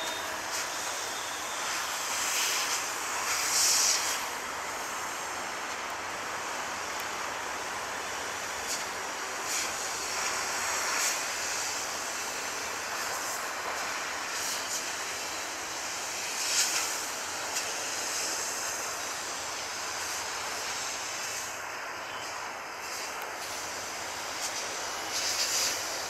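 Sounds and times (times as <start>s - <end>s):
distant diesel locomotive drone: 0.0s - 26.0s.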